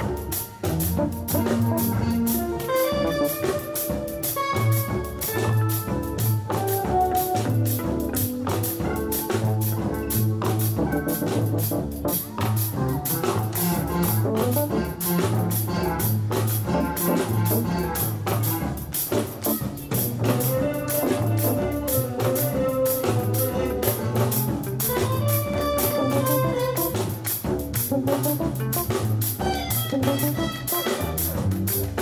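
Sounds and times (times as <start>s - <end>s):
drum kit steady beat: 0.0s - 32.0s
electric guitar: 0.0s - 32.0s
keyboard: 0.0s - 32.0s
repeating bass line: 0.0s - 32.0s
saxophones: 0.0s - 32.0s.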